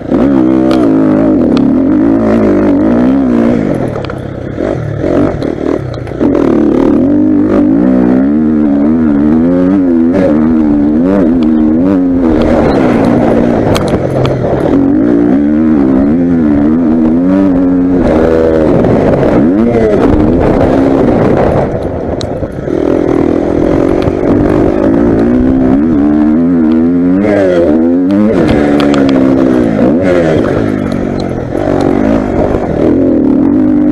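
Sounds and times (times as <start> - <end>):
motorbike engine revving: 0.0 - 33.9.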